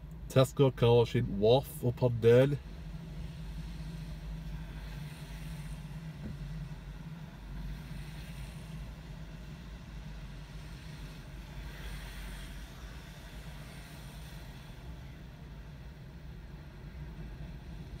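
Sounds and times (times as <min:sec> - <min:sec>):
car engine idling: 0:00.0 - 0:18.0
tyres hissing on wet road: 0:00.3 - 0:18.0.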